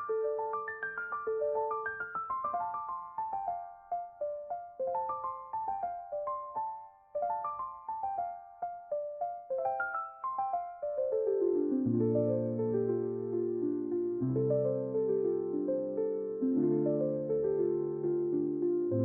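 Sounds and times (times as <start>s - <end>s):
piano-like keyboard melody: 0.0s - 19.0s.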